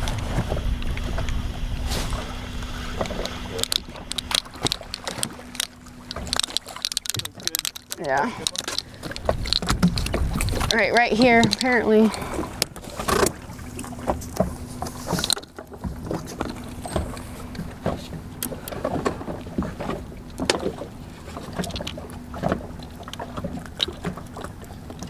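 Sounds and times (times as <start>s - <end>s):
low boat hum: 0.0s - 25.0s.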